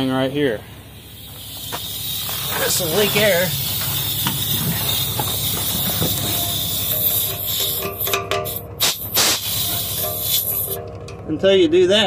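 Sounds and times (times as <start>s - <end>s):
compressed air hissing: 0.6s - 10.8s.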